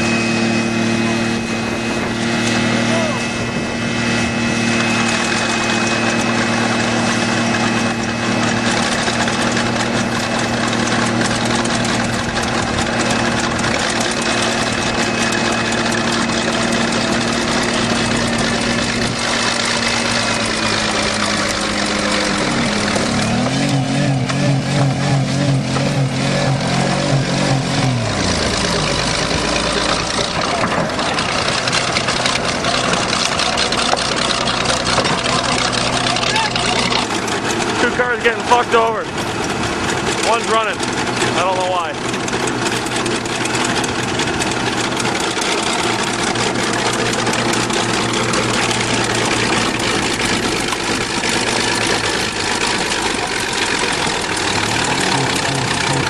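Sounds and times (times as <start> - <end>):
bulldozer engine: 0.0 - 56.0
car engine revving high: 0.0 - 56.0.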